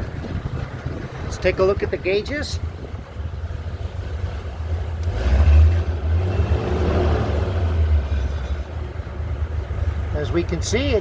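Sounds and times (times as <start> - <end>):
car engine idling rough: 0.0 - 11.0.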